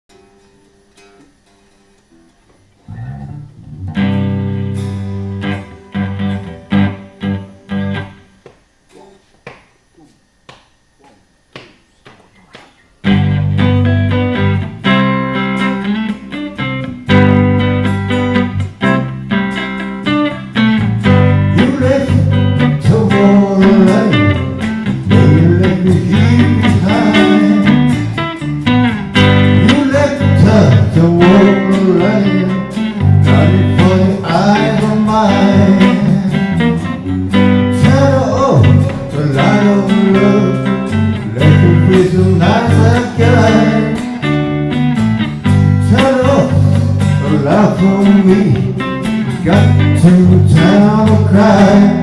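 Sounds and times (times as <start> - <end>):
guitar playing: 0.1 - 9.1, 12.8 - 52.0.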